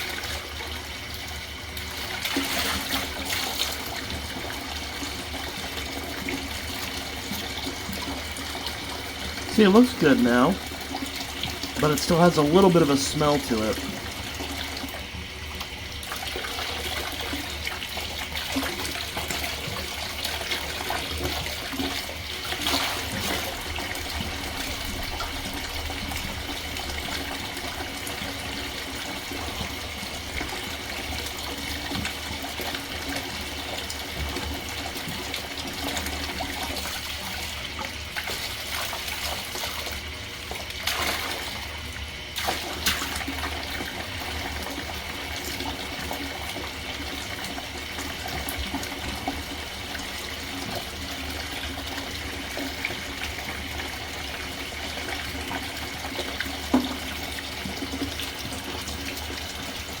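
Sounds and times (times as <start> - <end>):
tap water running into sink: 0.0 - 60.0.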